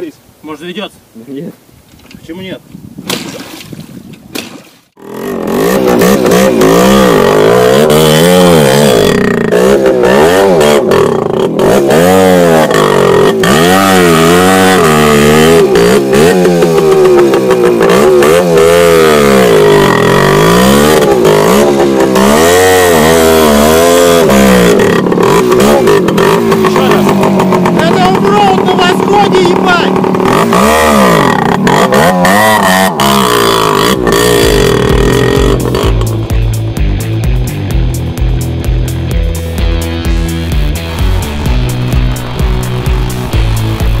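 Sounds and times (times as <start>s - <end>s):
motorcycle engine revving hard: 4.9s - 37.3s, 38.2s - 44.0s.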